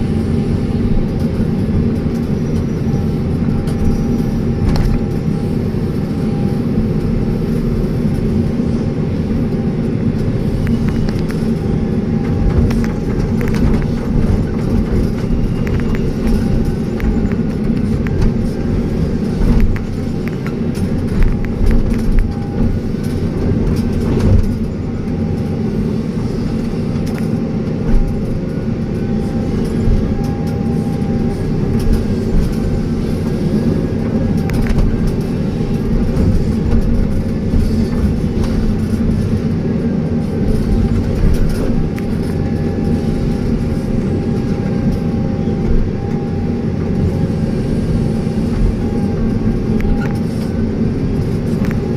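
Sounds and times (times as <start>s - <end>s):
excavator diesel engine: 0.0s - 51.9s
faint wavering whine: 0.0s - 51.9s.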